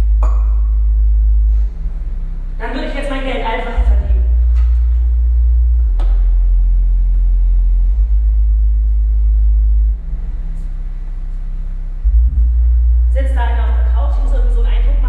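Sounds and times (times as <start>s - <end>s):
deep vehicle rumble: 0.0s - 15.0s
steady low tones: 0.0s - 15.0s.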